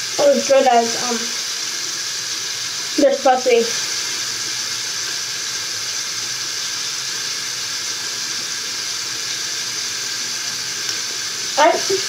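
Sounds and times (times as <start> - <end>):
tap running water: 0.0 - 12.0.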